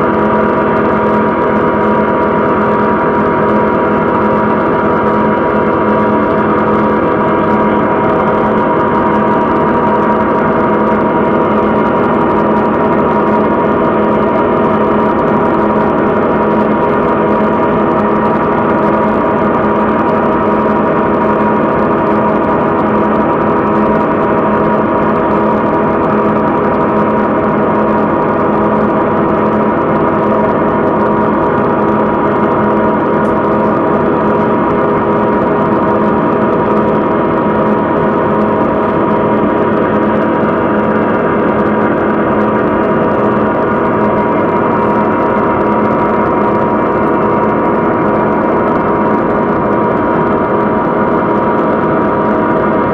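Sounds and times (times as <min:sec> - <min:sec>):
dense electronic drone: 0:00.0 - 0:52.9.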